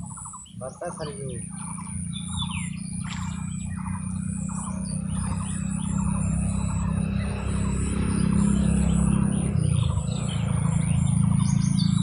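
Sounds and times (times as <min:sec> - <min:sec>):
birds chirping: 0:00.0 - 0:12.0
high-pitched drone: 0:00.0 - 0:12.0
low hum: 0:00.0 - 0:12.0.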